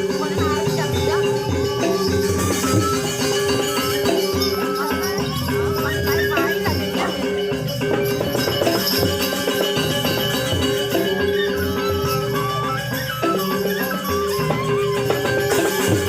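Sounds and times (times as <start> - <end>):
metallophone notes: 0.0 - 16.0
rattling cymbal-like percussion: 0.0 - 16.0.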